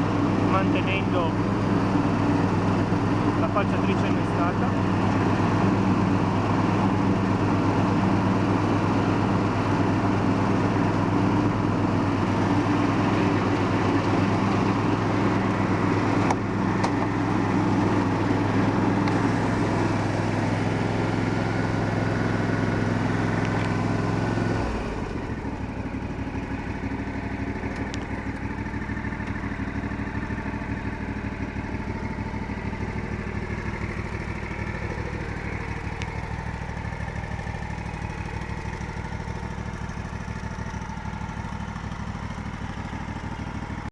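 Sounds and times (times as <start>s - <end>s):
lawn tractor engine running: 0.0s - 43.9s.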